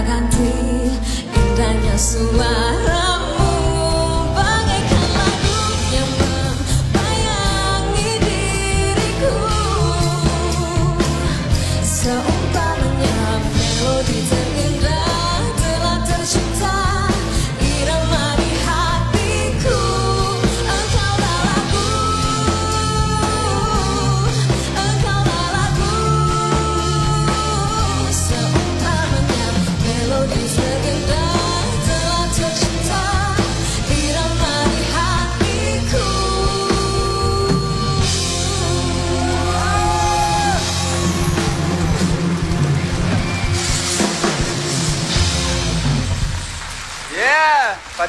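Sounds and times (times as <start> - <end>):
woman singing: 0.0 - 41.6
band playing pop music: 0.0 - 47.8.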